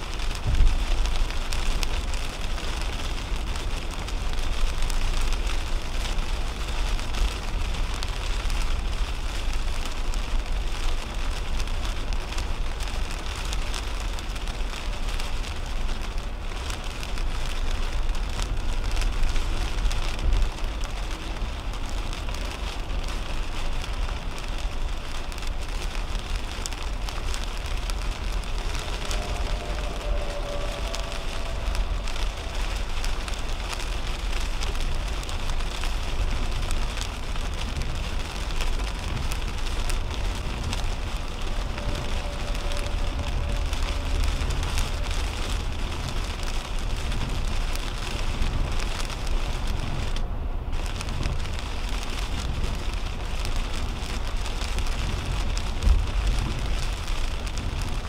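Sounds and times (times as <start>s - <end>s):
heavy rain hitting a car: 0.0s - 58.0s
tyres rumbling on wet road: 0.0s - 58.0s.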